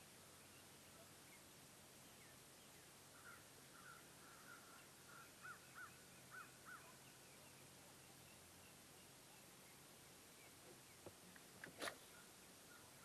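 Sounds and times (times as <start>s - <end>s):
faint lakeside hiss: 0.0s - 13.0s.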